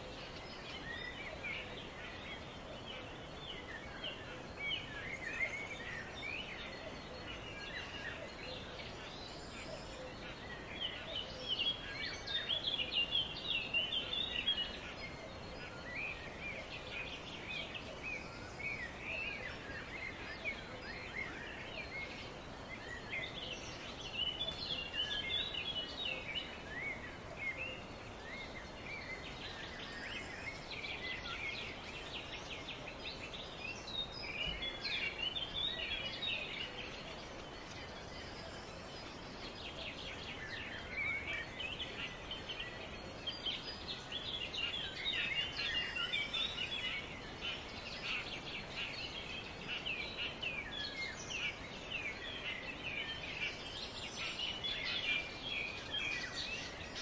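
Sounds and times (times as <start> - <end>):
background hiss: 0.0 - 57.0
small birds chirping: 0.0 - 57.0.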